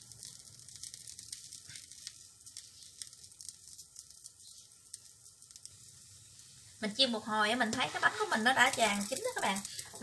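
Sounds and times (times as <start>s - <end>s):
pancake sizzling in oil: 0.0s - 10.0s.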